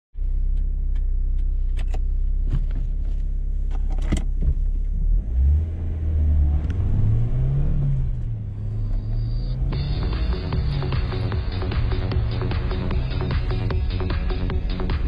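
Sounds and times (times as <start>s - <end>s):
car engine droning: 0.2s - 15.0s.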